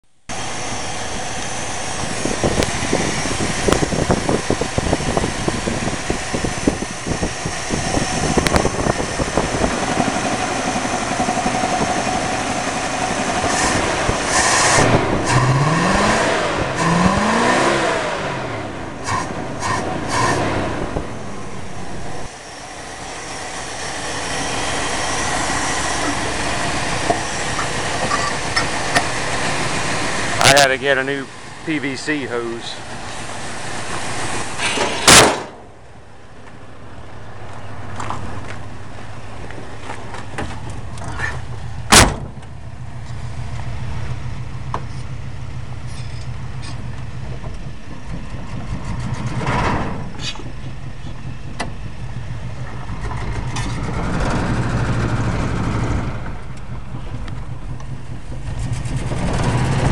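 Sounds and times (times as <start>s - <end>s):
car engine revving: 0.3s - 35.2s, 37.8s - 59.9s.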